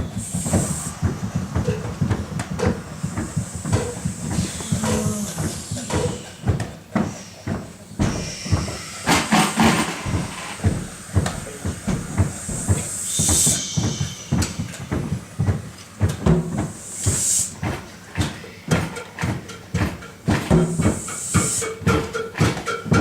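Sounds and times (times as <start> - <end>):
hissing and shushing: 0.0 - 19.5, 20.4 - 22.1.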